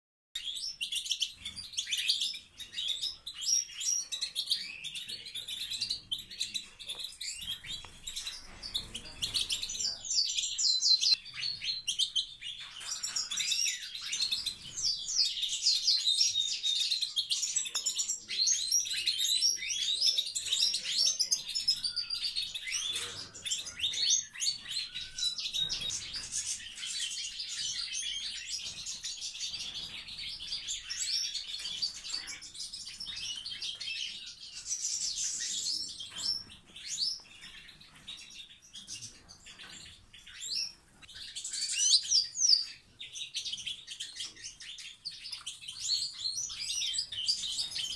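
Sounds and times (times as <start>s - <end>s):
goldfinches twittering and chirping: 0.4s - 47.9s.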